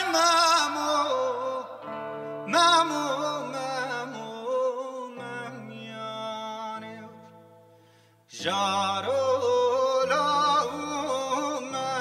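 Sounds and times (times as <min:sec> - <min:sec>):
man singing ornamented phrases: 0:00.0 - 0:07.6, 0:08.3 - 0:12.0
acoustic guitar notes: 0:00.0 - 0:12.0.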